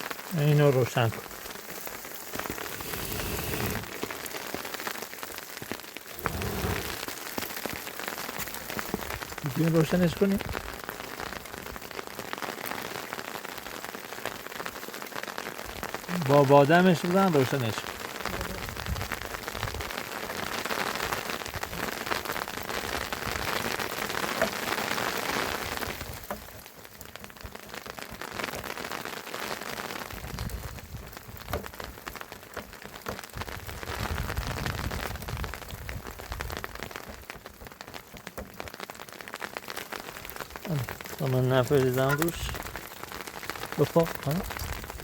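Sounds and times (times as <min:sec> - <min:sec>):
wood fire crackling and hissing: 0:00.0 - 0:45.0.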